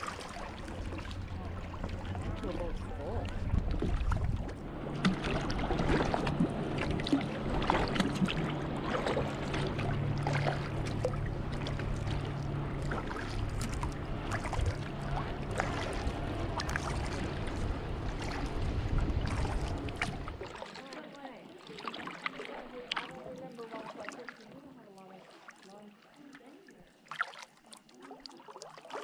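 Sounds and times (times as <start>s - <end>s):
low steady hum: 0.0s - 28.4s
paddle strokes dripping: 0.0s - 29.0s
water lapping against hull: 0.0s - 29.0s.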